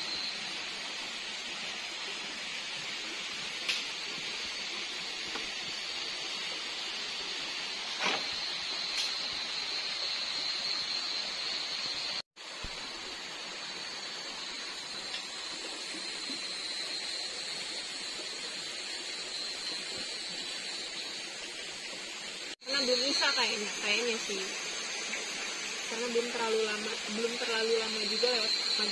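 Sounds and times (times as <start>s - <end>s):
night insects droning: 0.0s - 28.9s.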